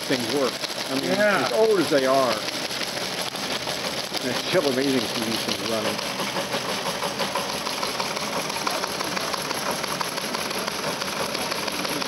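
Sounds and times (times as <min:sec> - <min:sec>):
teletype machine clattering: 0:00.0 - 0:12.0.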